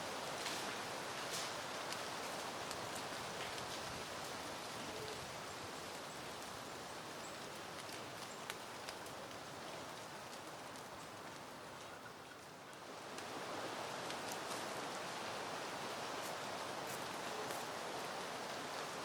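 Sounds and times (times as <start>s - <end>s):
soft wind rustling plants: 0.0s - 19.0s.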